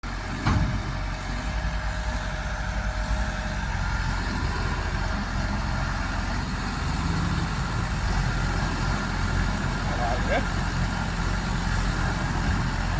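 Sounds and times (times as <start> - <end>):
diesel engine rumbling: 0.0 - 12.9.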